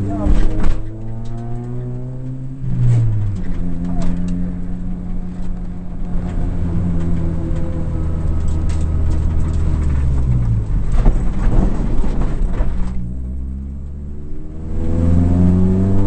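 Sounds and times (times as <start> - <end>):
car rattles and knocks: 0.0 - 13.4
rally car engine running hard: 0.0 - 16.0.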